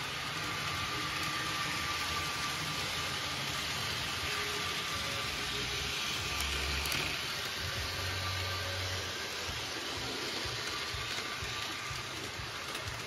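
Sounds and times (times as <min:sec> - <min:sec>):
thin motor whine: 0:00.0 - 0:13.0
wheels hissing on rail: 0:00.0 - 0:13.0.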